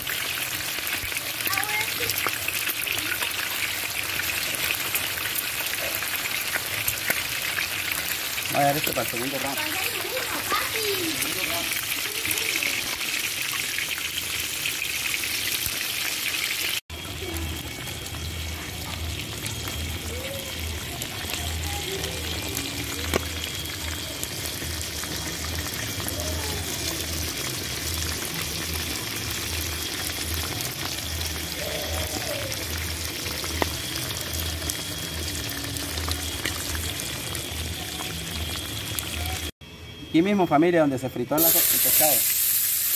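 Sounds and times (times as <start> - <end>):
fish frying in hot oil: 0.0 - 39.6, 41.3 - 42.9.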